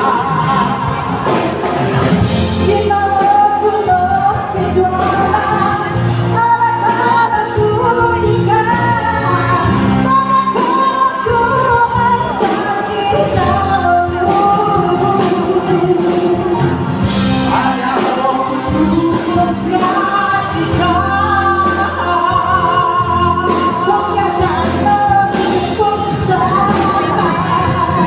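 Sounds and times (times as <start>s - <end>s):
instrumental accompaniment: 0.0s - 28.0s.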